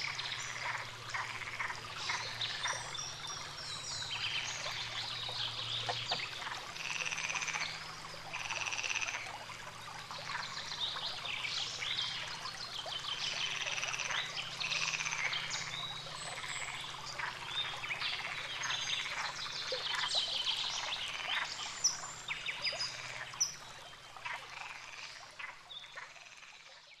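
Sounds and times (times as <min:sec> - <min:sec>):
frogs croaking: 0:00.0 - 0:27.0.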